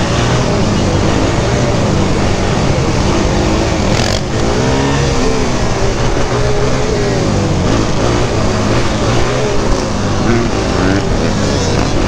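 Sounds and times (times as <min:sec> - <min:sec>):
quad engine revving: 0:00.0 - 0:12.0.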